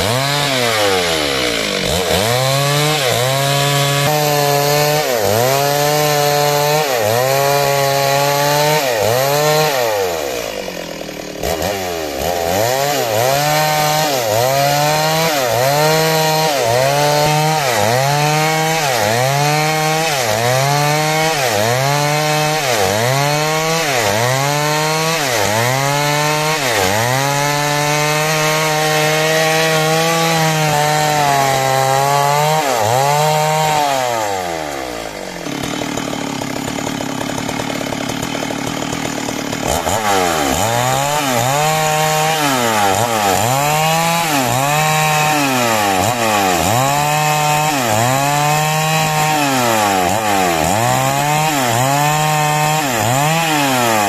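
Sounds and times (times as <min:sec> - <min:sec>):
chainsaw cutting timber: 0:00.0 - 0:54.0.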